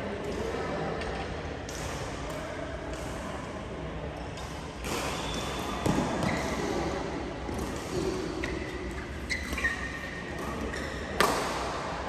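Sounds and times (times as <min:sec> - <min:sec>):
indoor hall background noise: 0:00.0 - 0:12.0.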